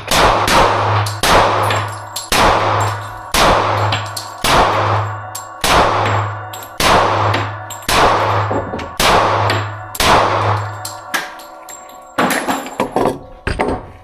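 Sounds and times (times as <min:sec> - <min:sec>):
pistol shots echoing: 0:00.0 - 0:12.6.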